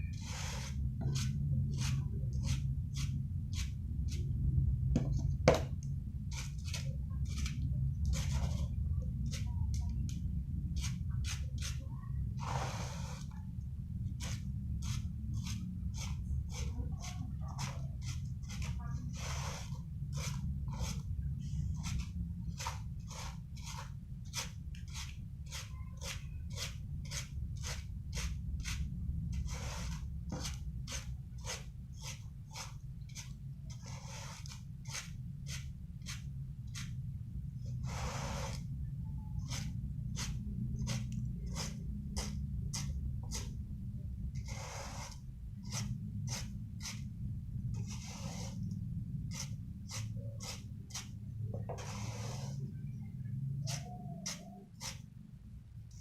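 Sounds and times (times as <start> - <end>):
kitten scratching in cat litter: 0.0 - 4.4, 6.2 - 37.1, 37.7 - 43.6, 44.4 - 55.1
steady low hum: 0.0 - 56.0.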